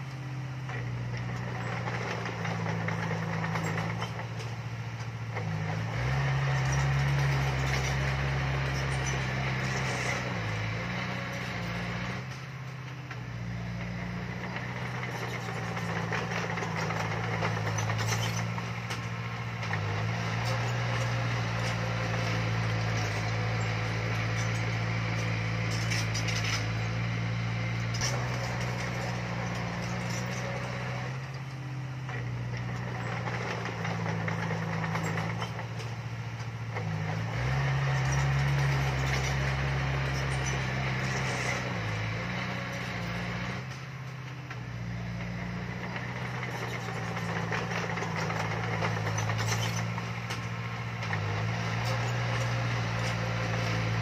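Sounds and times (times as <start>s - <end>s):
diesel machinery engine under load: 0.0s - 54.0s
rough mechanical noise: 0.0s - 54.0s.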